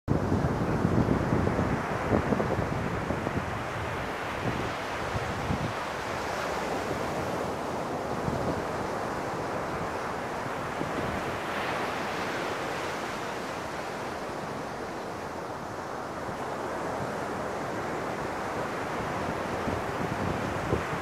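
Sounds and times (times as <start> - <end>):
ocean surf on beach: 0.1 - 21.0
wind on microphone: 0.1 - 21.0.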